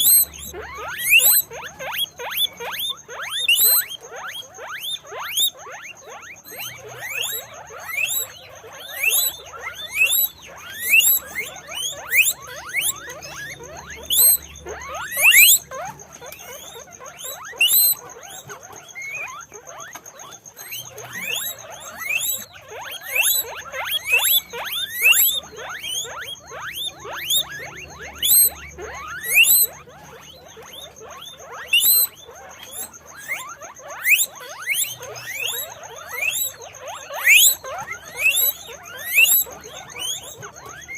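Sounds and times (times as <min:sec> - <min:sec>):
guinea pigs squeaking: 0:00.0 - 0:40.9.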